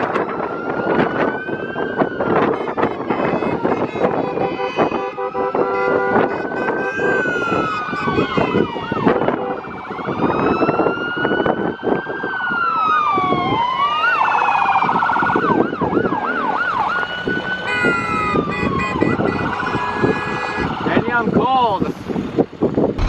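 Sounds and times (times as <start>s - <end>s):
siren yelp: 0.0s - 21.0s
sirens wailing: 0.0s - 21.4s
vehicle engine and road noise: 0.0s - 23.0s.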